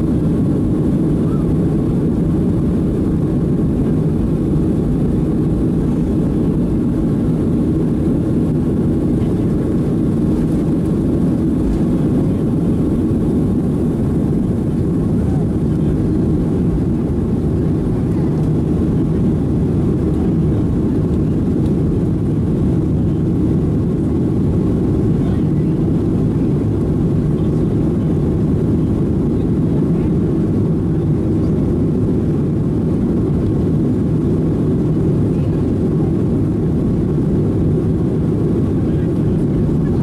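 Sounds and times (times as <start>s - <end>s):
airflow over fuselage: 0.0s - 40.0s
jet engines in airplane cabin: 0.0s - 40.0s.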